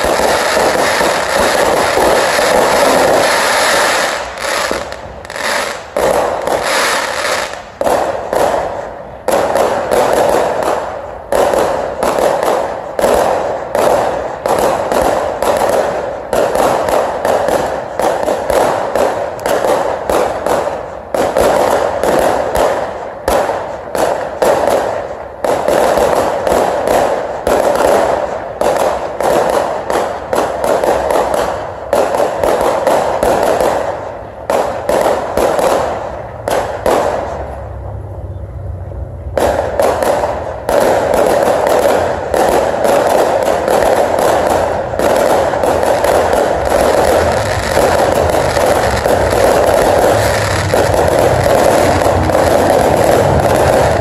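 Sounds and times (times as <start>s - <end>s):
fireworks bursting and crackling: 0.0s - 37.9s, 39.2s - 54.0s.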